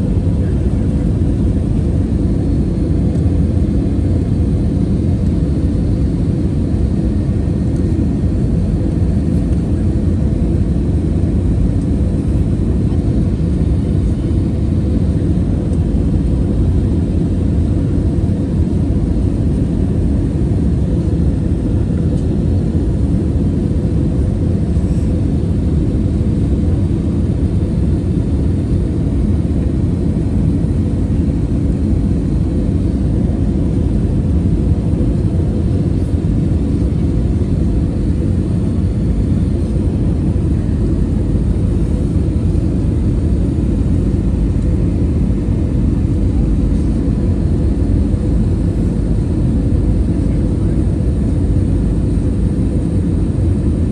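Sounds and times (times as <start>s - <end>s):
airliner engines and airflow rumble: 0.0s - 53.9s
faint steady hum: 0.0s - 53.9s.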